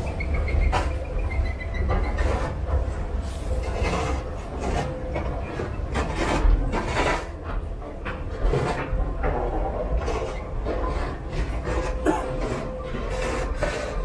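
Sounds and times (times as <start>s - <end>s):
rubbing and rattling: 1.7s - 14.0s.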